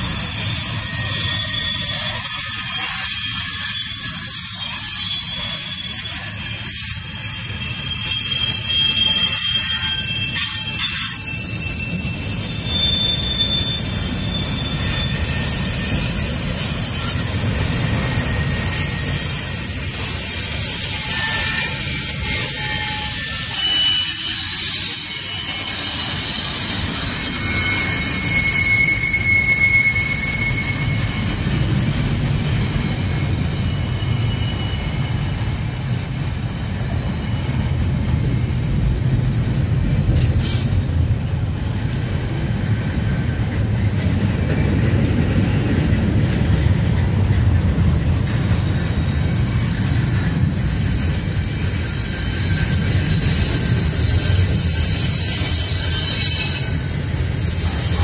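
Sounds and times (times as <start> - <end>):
high wheel squeals: 0.0 - 58.0
train wheels rumbling on rail: 0.0 - 58.0.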